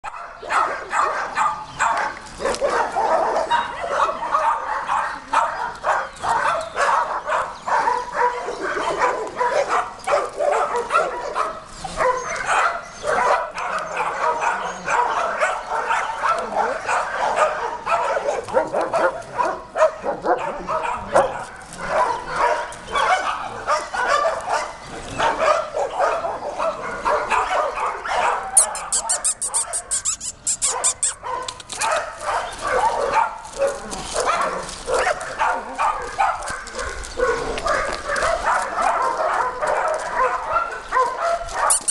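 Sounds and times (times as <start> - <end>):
many dogs barking: 0.0 - 30.0, 30.6 - 41.9.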